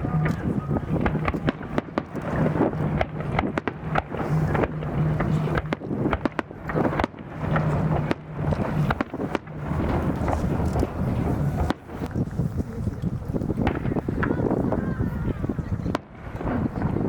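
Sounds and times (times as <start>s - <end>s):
fireworks bangs and crackles: 0.0s - 17.0s
steady low rumble: 0.0s - 17.0s.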